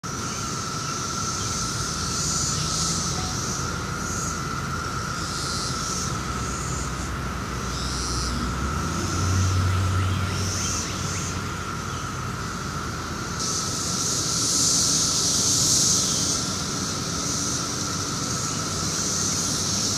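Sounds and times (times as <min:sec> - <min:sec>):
cicadas droning: 0:00.0 - 0:19.9
nearby cicadas buzzing: 0:00.0 - 0:19.9.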